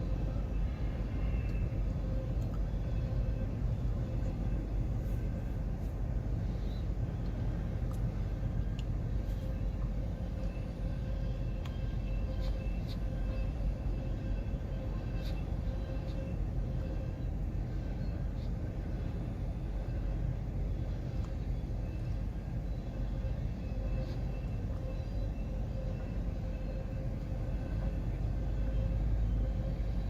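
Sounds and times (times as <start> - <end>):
faint steady squeal: 0.0 - 30.0
freight train rumbling: 0.0 - 30.0.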